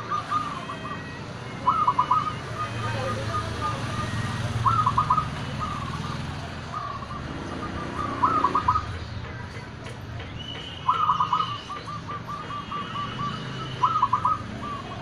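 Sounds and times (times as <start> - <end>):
doves cooing: 0.0 - 15.0.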